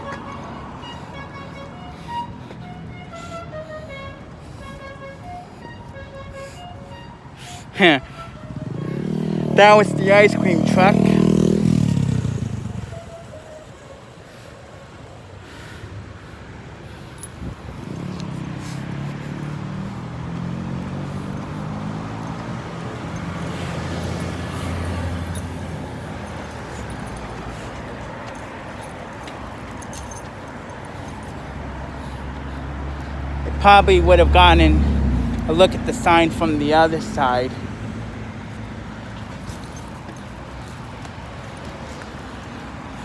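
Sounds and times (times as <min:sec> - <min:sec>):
vehicle engine hum: 0:00.0 - 0:43.0.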